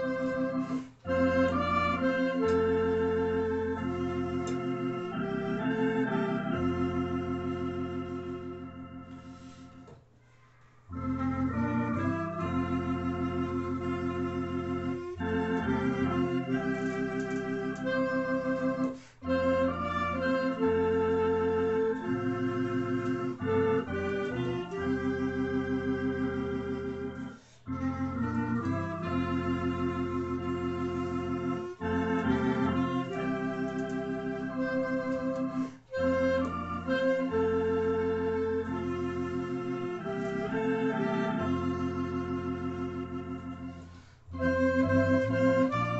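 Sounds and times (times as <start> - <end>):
clarinet melody: 0.0 - 10.0, 10.9 - 45.9
electronic organ chords: 0.0 - 10.2, 10.8 - 45.9.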